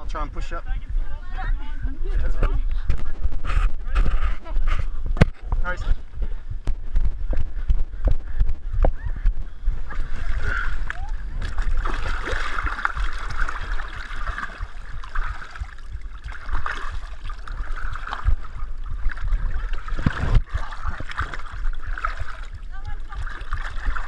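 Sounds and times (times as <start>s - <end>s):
low thumps and body rubbing: 0.6s - 24.0s
muddy water sloshing and gurgling: 0.9s - 24.0s.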